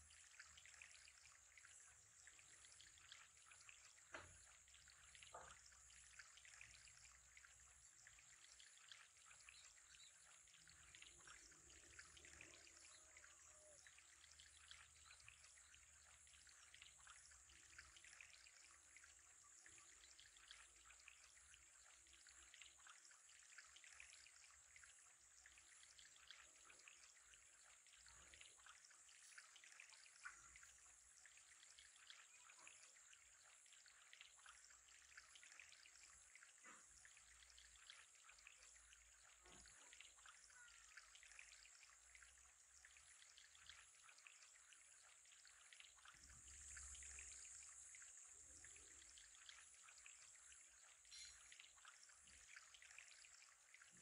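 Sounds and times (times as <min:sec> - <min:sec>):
water trickling into aquarium: 0:00.0 - 0:54.0.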